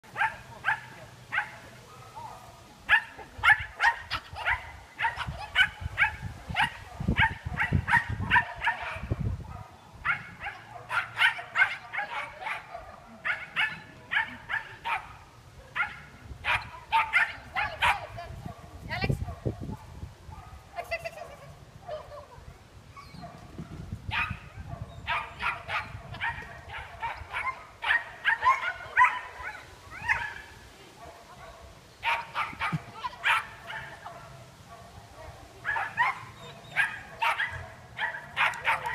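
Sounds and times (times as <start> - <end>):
dog barking: 0.2 - 20.7, 23.2 - 38.9.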